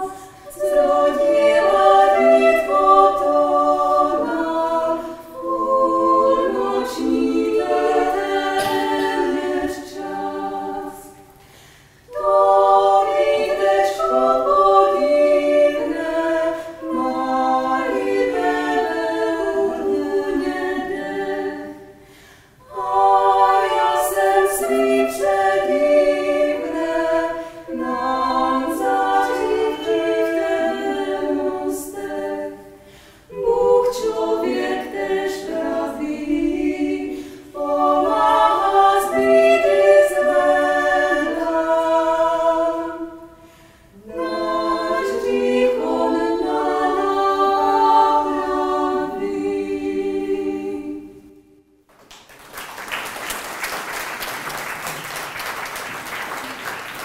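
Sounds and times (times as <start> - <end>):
female vocal ensemble singing: 0.0 - 51.7.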